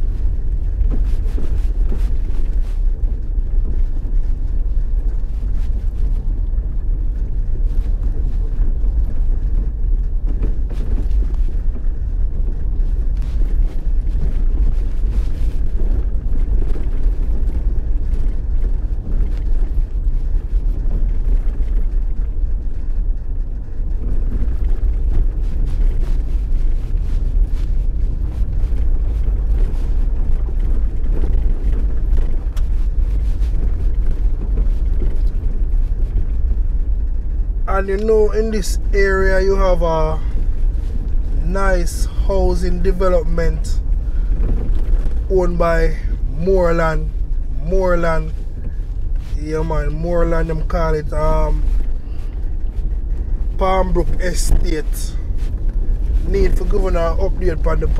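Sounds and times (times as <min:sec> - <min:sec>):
vehicle road rumble: 0:00.0 - 0:57.9
wind buffeting microphone: 0:00.0 - 0:57.9.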